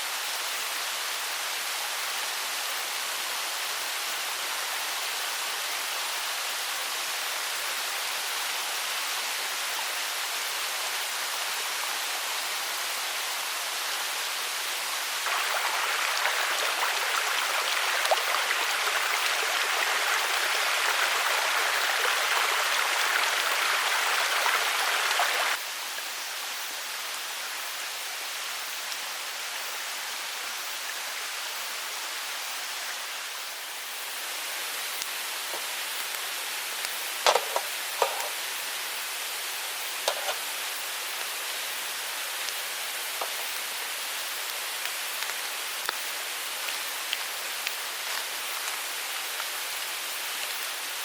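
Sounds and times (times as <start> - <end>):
mountain stream rushing: 0.0 - 26.0, 28.3 - 51.0.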